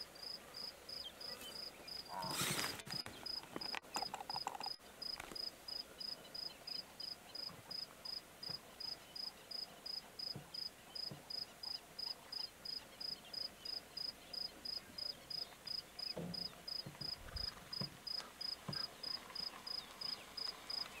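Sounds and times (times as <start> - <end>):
cricket chirping: 0.2 - 21.0.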